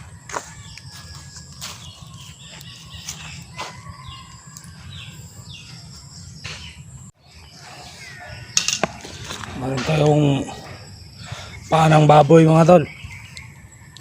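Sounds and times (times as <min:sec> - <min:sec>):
birds chirping: 0:00.0 - 0:14.0
insect drone: 0:00.0 - 0:14.0.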